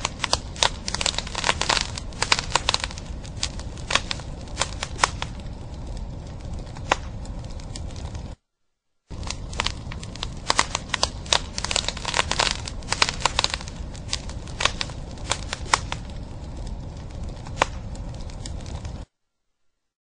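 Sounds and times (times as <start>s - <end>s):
steady low rumble: 0.0s - 8.4s, 9.1s - 19.1s.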